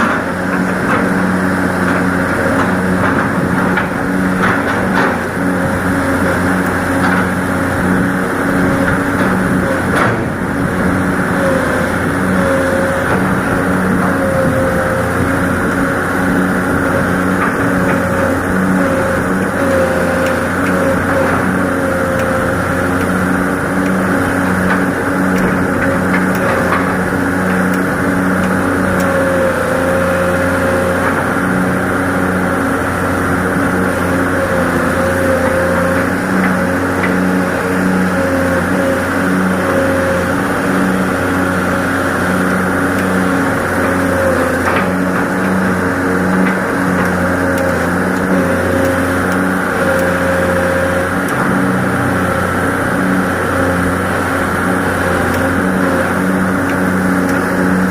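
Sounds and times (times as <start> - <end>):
excavator engine running: 0.0 - 57.9.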